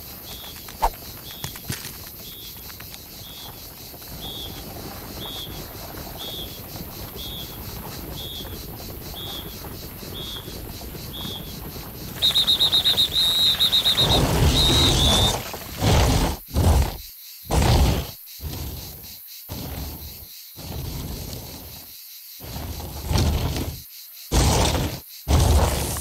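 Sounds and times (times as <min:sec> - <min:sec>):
faint outdoor background: 0:00.0 - 0:26.0.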